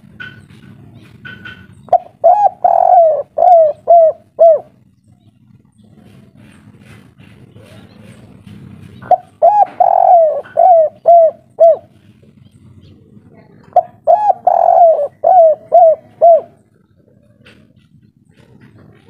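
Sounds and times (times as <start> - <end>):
dove cooing: 0.0 - 5.0, 5.8 - 19.0.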